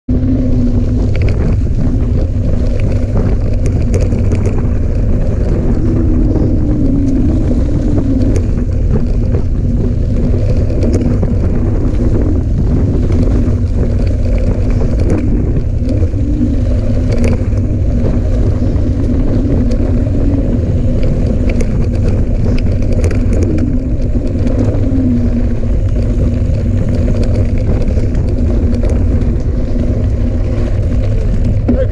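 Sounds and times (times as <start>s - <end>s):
wind rushing over microphone: 0.0s - 31.9s
bike tyres rolling on dirt: 0.1s - 31.9s.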